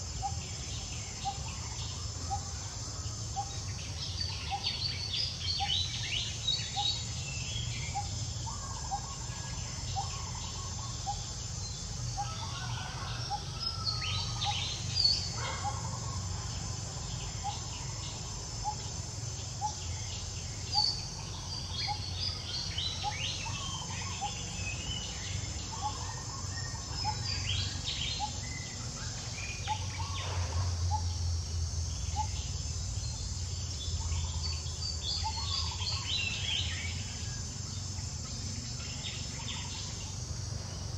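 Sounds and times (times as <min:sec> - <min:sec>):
insect drone: 0:00.0 - 0:40.9.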